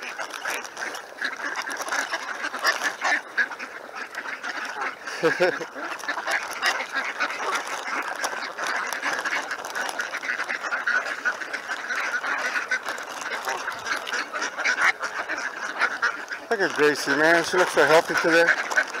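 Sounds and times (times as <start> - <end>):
flock of ducks calling: 0.0 - 19.0.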